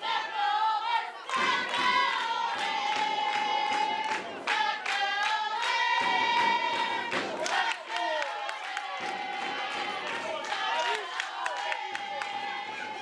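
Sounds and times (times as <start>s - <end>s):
spectators chanting: 0.0s - 13.0s
clapping: 1.3s - 12.8s.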